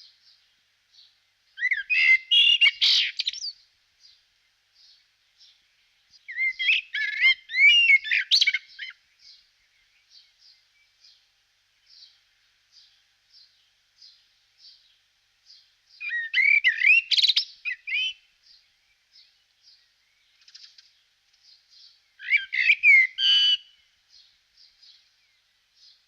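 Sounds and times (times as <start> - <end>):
songbird warbling song: 0.0 - 26.0.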